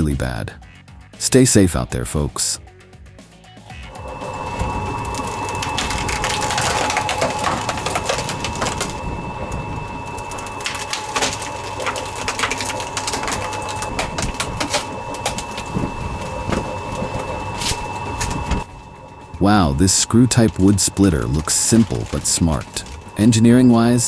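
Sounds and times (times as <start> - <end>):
wood-processing machine whining: 3.8 - 24.0
wood cracking and snapping: 4.3 - 23.6.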